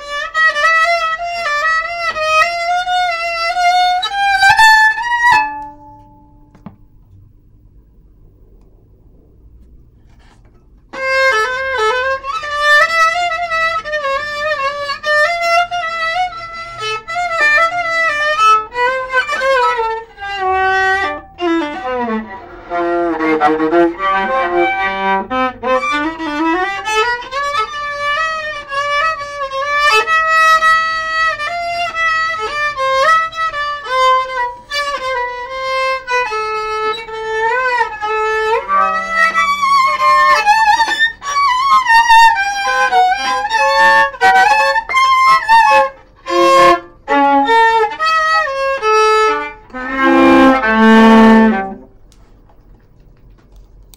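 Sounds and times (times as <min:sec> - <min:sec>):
bowed viola melody: 0:00.0 - 0:06.8, 0:09.9 - 0:52.1.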